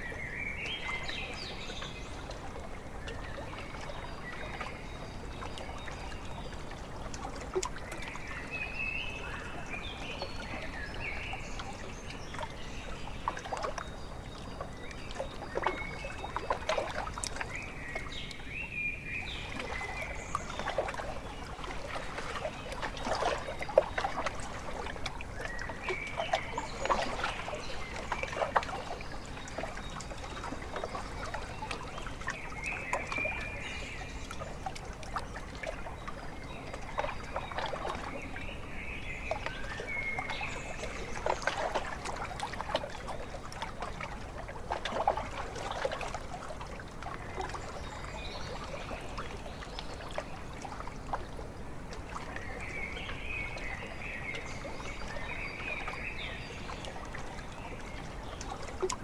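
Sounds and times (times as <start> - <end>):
small waves lapping: 0.0 - 59.0.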